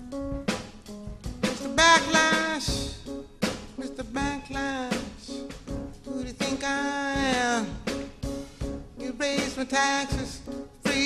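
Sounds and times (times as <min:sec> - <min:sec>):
piano percussive strikes: 0:00.0 - 0:11.0.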